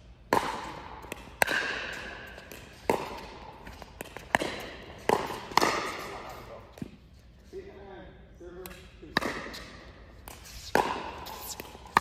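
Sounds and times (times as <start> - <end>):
paddles hitting plastic ball: 0.2 - 7.0, 8.6 - 12.0.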